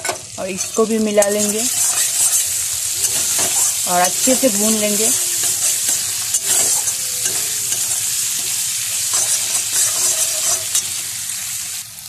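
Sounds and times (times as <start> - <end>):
spatula scraping metal pan: 0.0 - 11.2
food sizzling in hot oil: 0.0 - 12.0.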